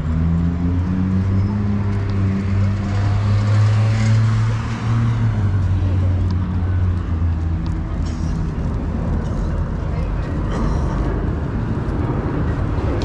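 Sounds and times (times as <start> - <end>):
car passing: 0.0 - 13.0
vehicle engine humming: 0.0 - 13.0.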